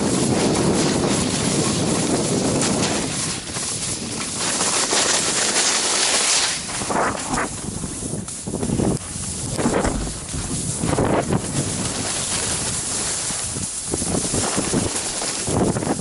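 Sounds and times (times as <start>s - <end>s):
wind buffeting microphone: 0.0s - 5.5s, 6.5s - 16.0s
skis hissing over snow: 0.0s - 16.0s.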